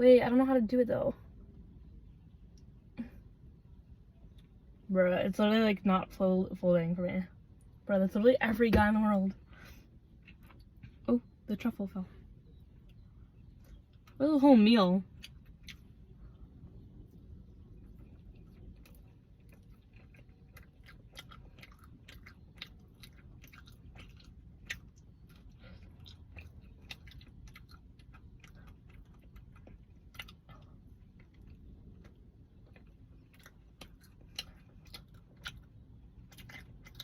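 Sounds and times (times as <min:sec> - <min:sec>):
low background rumble: 0:00.0 - 0:37.0.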